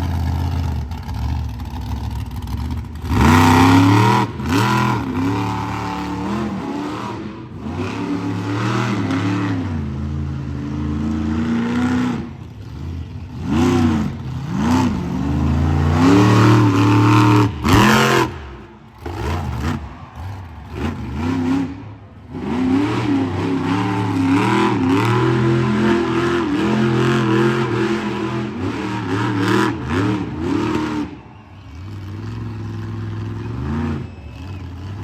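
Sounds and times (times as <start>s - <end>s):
truck engine revving hard: 0.0s - 35.0s.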